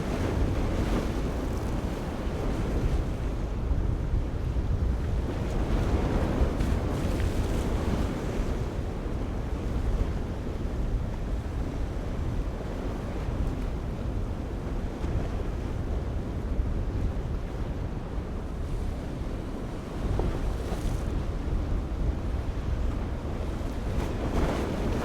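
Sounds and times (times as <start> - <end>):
ocean surf and waves: 0.0 - 25.0
wind buffeting microphone: 0.0 - 25.0.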